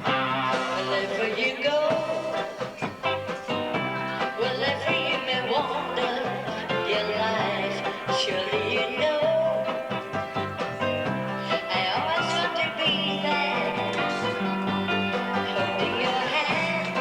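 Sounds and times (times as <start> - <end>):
steady bass notes: 0.0 - 1.2, 1.9 - 17.0
person singing: 0.0 - 17.0.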